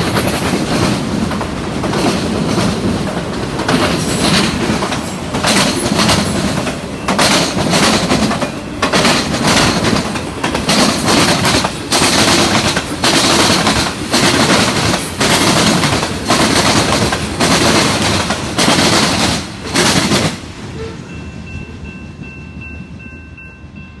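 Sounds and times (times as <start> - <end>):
train cars rolling past: 0.0 - 24.0.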